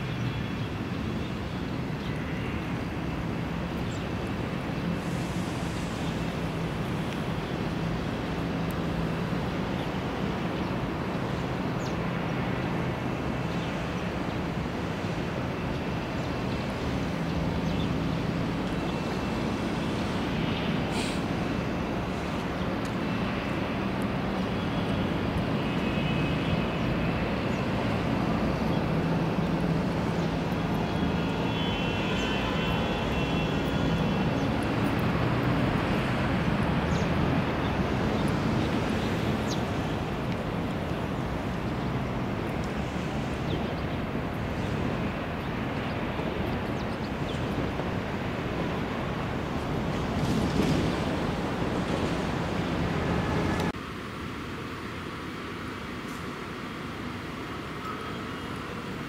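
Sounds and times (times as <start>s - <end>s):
distant traffic hum: 0.0s - 59.0s.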